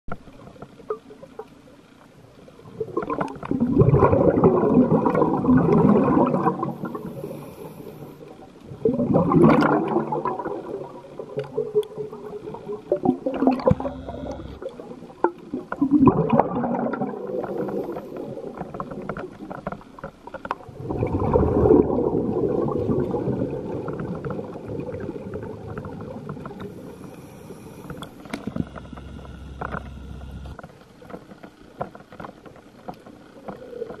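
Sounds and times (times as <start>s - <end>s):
underwater bubbles gurgling: 0.1s - 34.0s.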